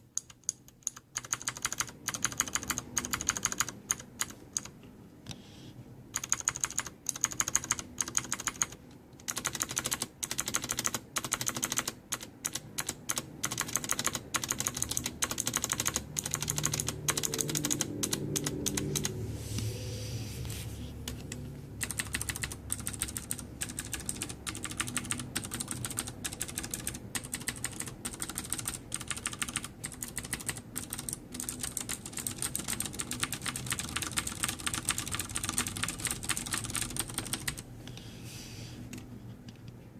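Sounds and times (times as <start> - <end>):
mechanical keyboard typing: 0.2 - 4.8, 6.1 - 19.2, 21.1 - 37.6.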